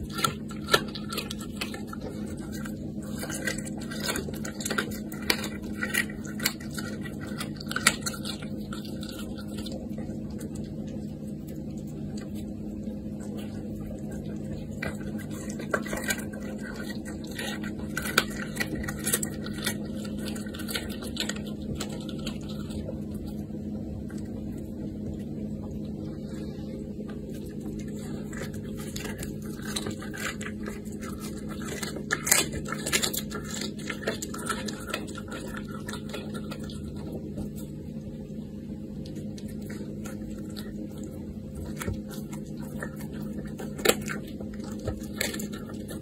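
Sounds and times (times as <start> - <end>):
animal chewing raw meat: 0.0 - 46.0
low hum: 0.0 - 46.0.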